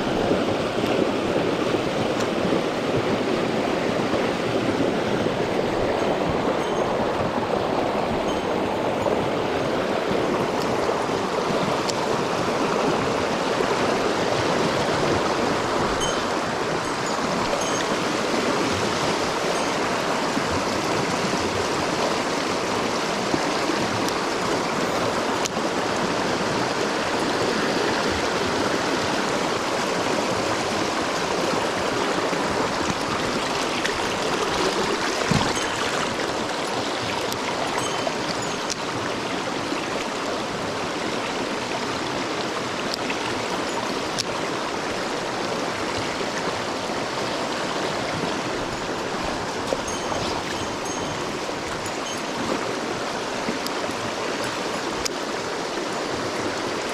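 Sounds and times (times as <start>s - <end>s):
stream water rushing: 0.0s - 56.9s.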